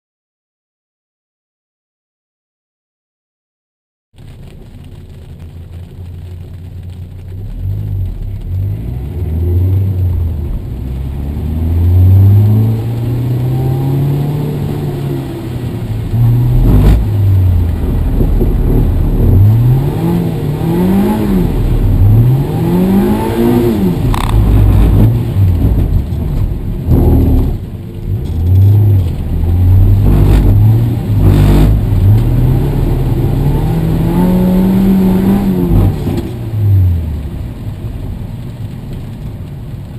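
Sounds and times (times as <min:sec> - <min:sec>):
car engine revving: 0:04.8 - 0:37.9.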